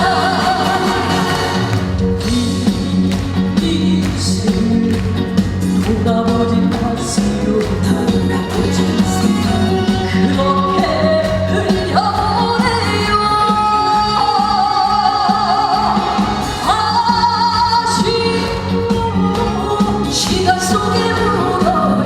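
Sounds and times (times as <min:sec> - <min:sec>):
trot music with singing: 0:00.0 - 0:22.0.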